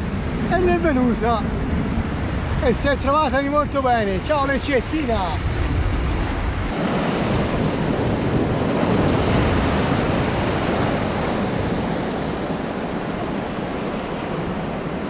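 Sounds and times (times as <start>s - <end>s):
surf washing over rocks: 0.0s - 15.0s
wind rumbling on microphone: 0.0s - 15.0s.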